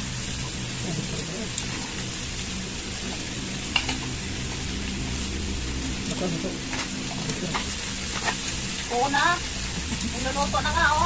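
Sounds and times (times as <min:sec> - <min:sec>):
pork sizzling on a grill: 0:00.0 - 0:11.0.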